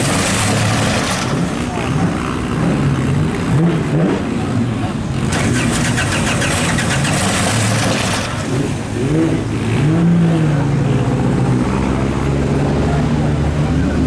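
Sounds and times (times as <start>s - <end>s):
race car engine revving and idling: 0.0s - 14.0s.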